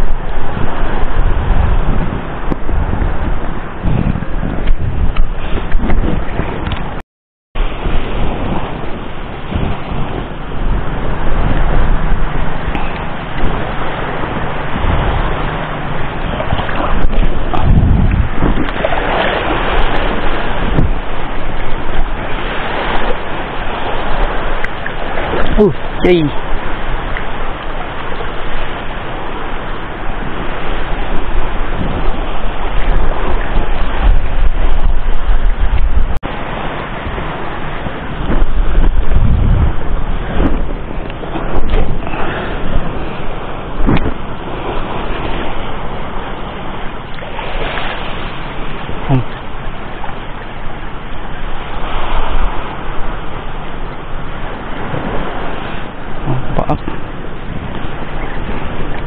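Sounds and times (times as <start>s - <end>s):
sea waves washing: 0.0s - 7.0s, 7.6s - 59.0s
wind buffeting microphone: 0.0s - 7.0s, 7.6s - 59.0s.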